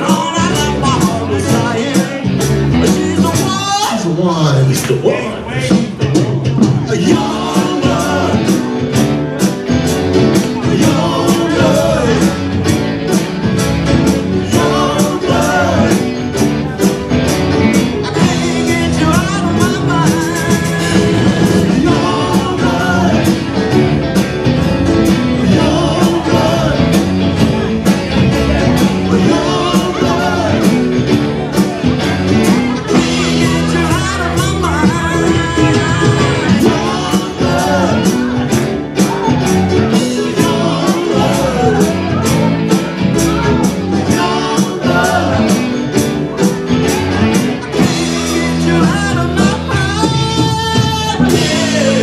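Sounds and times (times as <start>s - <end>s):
live rock band playing: 0.0s - 52.0s
steady drum beat: 0.0s - 52.0s.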